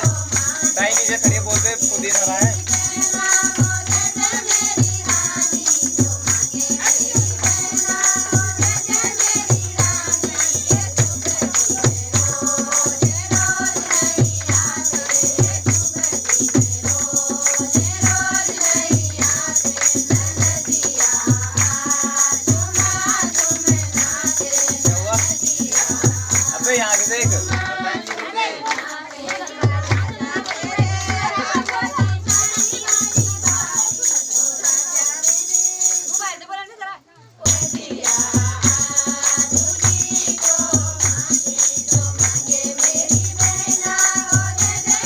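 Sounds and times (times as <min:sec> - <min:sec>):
steady drum beat: 0:00.0 - 0:35.2, 0:37.5 - 0:45.0
jingling percussion: 0:00.0 - 0:36.8, 0:37.4 - 0:45.0.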